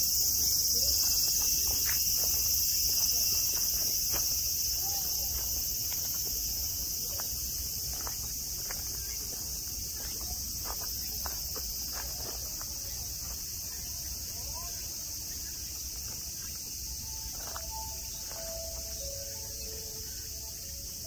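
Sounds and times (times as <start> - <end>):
cicadas buzzing: 0.0 - 21.0.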